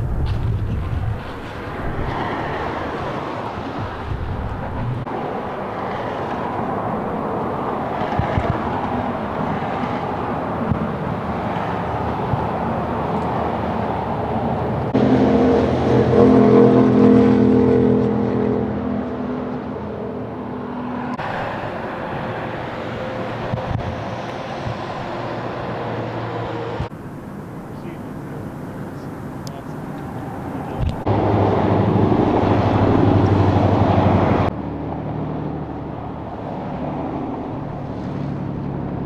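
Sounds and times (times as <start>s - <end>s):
traffic: 0.0s - 39.0s
truck engine droning: 0.0s - 39.0s
wind: 0.0s - 39.0s.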